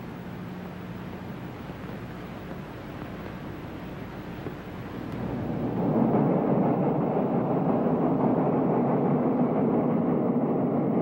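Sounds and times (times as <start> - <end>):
steam locomotive running: 0.0 - 11.0.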